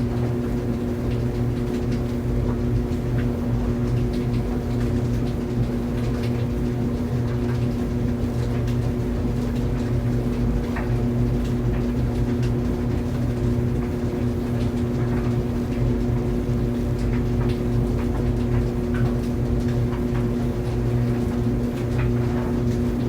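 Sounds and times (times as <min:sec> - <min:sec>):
laundry dryer motor hum: 0:00.0 - 0:23.0.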